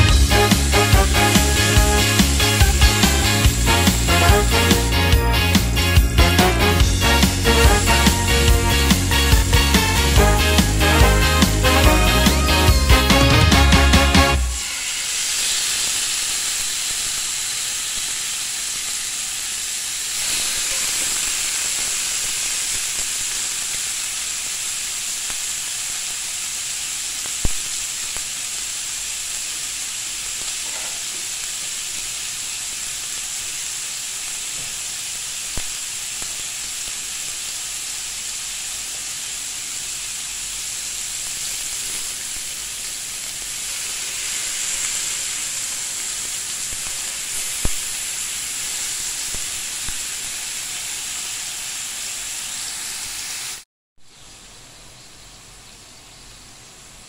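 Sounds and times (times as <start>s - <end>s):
kebabs sizzling on grill pan: 0.0s - 53.6s.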